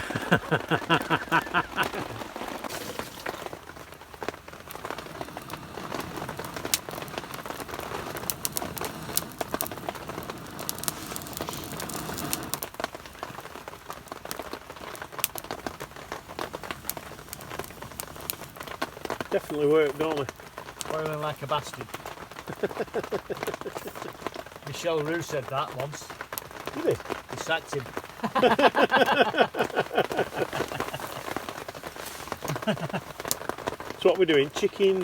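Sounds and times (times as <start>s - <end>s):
rain pattering: 0.0s - 35.0s
sharp ticks of raindrops: 0.0s - 35.0s.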